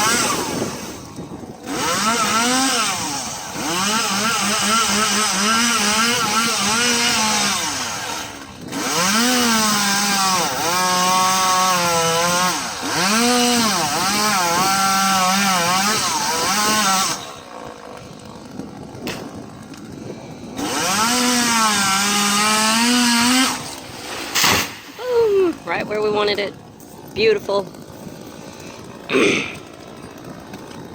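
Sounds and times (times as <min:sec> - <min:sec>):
chainsaw revving under load: 0:00.0 - 0:30.9.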